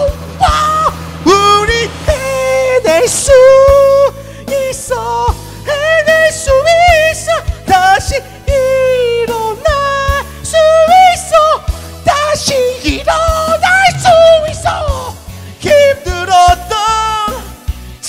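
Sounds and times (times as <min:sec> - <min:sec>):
man singing with vibrato: 0:00.0 - 0:18.0
pop backing track with drums: 0:00.0 - 0:18.0.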